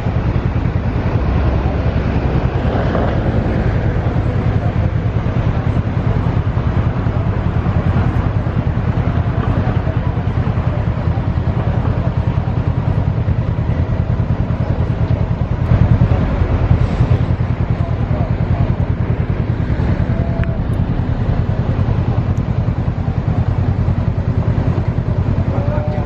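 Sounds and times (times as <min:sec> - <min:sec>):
tugboat diesel engines rumbling: 0:00.0 - 0:26.0.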